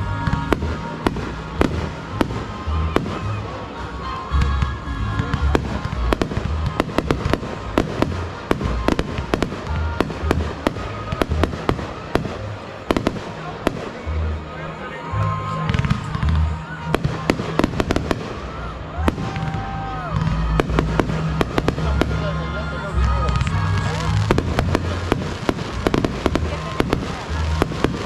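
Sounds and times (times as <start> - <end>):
deep fireworks booms: 0.0 - 3.5, 4.5 - 14.4, 15.6 - 22.3, 23.0 - 28.0
fireworks cracking and banging: 0.0 - 14.5, 15.5 - 28.0
background music: 0.0 - 28.0.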